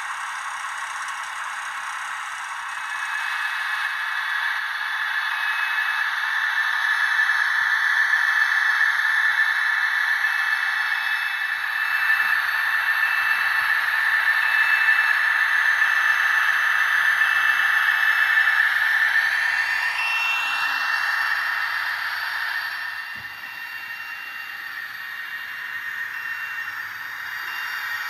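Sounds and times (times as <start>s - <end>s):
faint whistling tone: 0.0s - 28.0s.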